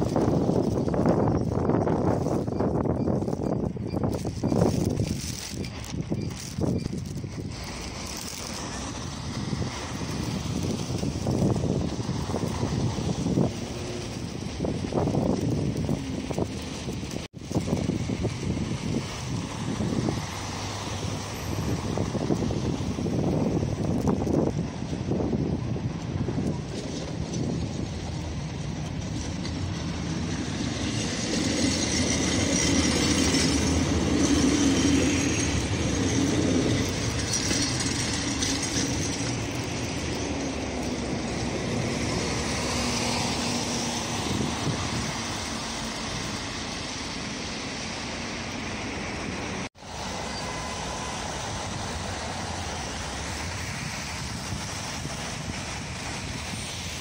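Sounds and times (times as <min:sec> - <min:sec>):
street traffic noise: 0:00.0 - 0:57.0
tram rumbling on rails: 0:00.0 - 0:57.0.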